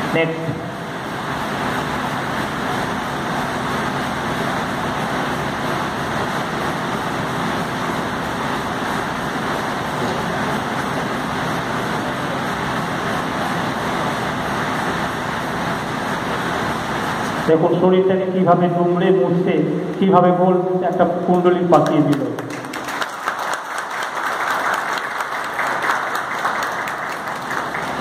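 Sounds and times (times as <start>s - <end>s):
steady background noise: 0.0s - 28.0s.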